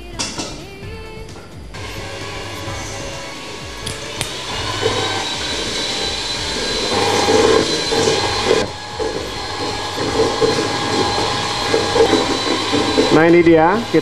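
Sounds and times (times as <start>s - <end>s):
electric hand mixer whirring: 1.7s - 14.0s.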